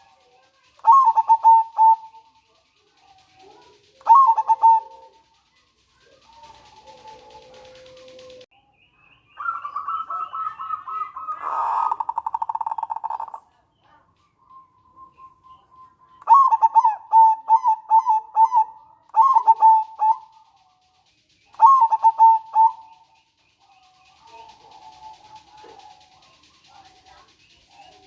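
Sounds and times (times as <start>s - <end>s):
dove cooing: 0.0s - 8.5s, 9.4s - 14.1s, 15.0s - 28.0s
dove rattling trill: 0.0s - 8.5s, 9.4s - 28.0s.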